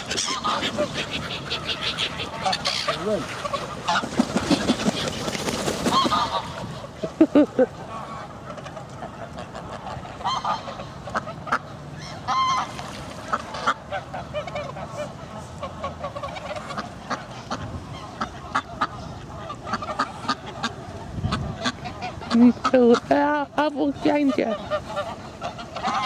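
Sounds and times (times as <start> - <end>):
geese honking: 0.0 - 7.0, 7.8 - 26.0.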